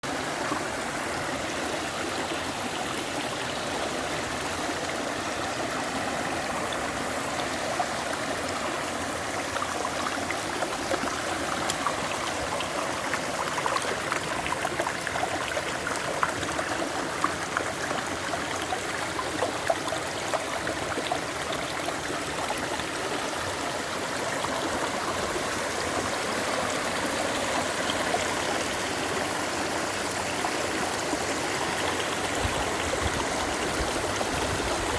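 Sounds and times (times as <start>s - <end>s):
stream running: 0.0s - 34.9s.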